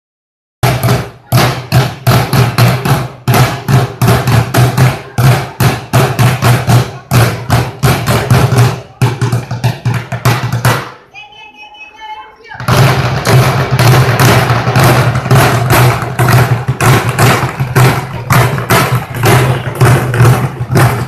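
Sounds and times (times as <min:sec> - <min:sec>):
drummers beating barrels: 0:00.6 - 0:11.1, 0:12.6 - 0:21.0.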